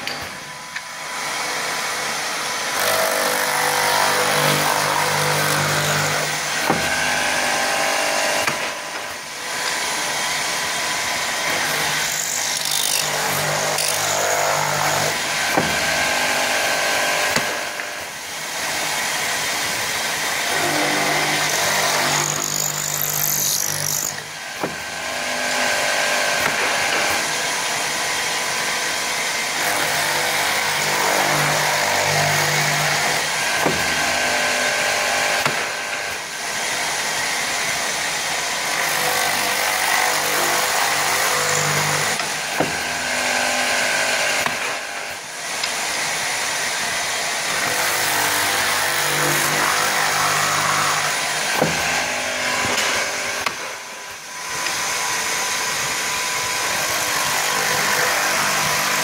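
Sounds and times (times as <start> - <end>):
drill bits cutting wood hiss: 0.0 - 59.0
drilling machine motor hum: 0.0 - 59.0.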